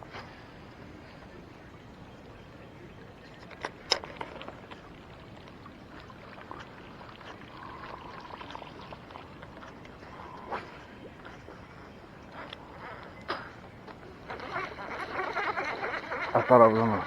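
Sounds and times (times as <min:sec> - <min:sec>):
water splashing and trickling: 0:01.8 - 0:17.0.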